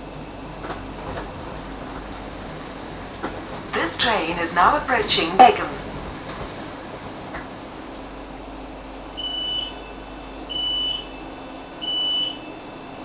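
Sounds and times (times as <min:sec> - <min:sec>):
train carriage hum: 0:00.0 - 0:13.0.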